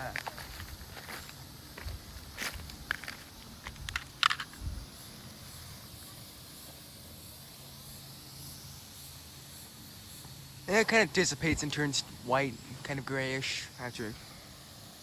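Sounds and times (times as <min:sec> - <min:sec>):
smoke bomb hissing: 0:00.0 - 0:15.0.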